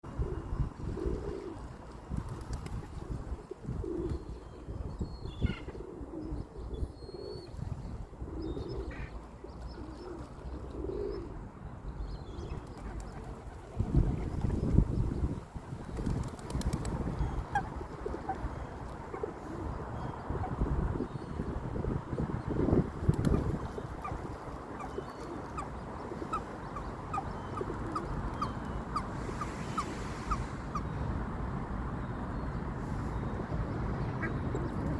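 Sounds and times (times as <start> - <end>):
wind rumble on microphone: 0.0 - 34.9.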